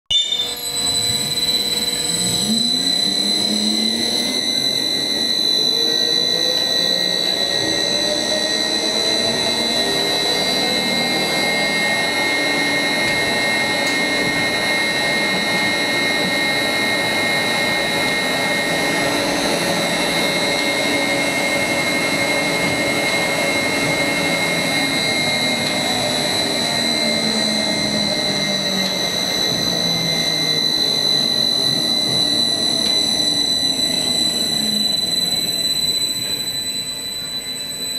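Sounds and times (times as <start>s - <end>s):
steady high-pitched whine: 0.1s - 37.9s
electric motor and gearbox whine: 0.2s - 37.9s.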